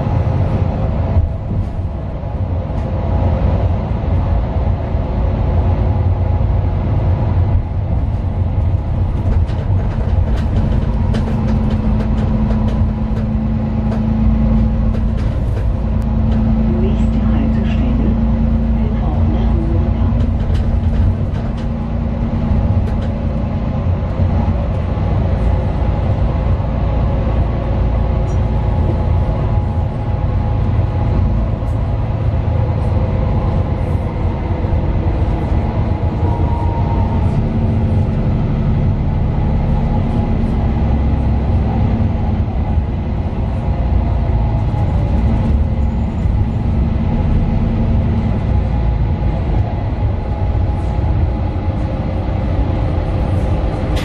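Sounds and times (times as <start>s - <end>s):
bus diesel engine rumbling: 0.0s - 54.0s
road and body noise: 0.0s - 54.0s.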